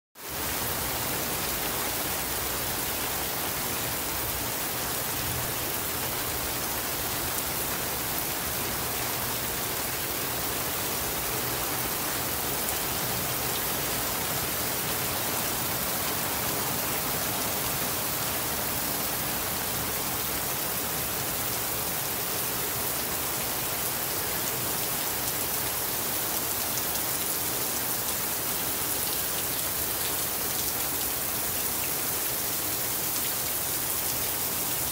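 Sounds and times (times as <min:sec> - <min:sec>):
heavy rain downpour: 0:00.2 - 0:34.9.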